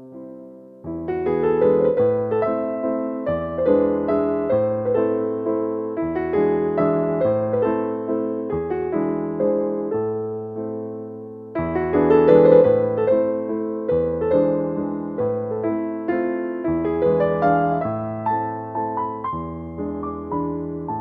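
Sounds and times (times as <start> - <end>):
slow gentle piano chords: 0.0 - 21.0.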